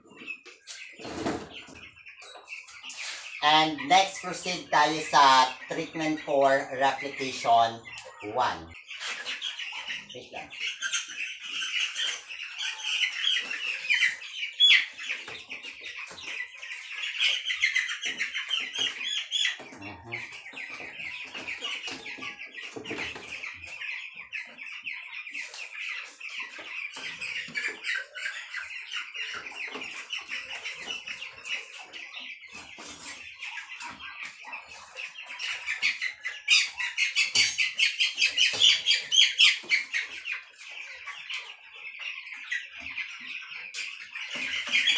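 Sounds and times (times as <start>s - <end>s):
chicks peeping and chirping: 0.0s - 44.9s.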